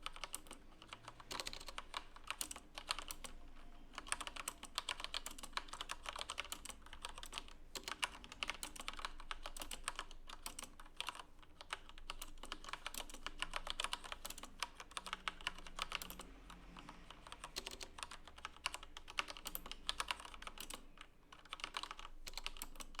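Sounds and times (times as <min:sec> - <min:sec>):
mechanical keyboard typing: 0:00.0 - 0:23.0.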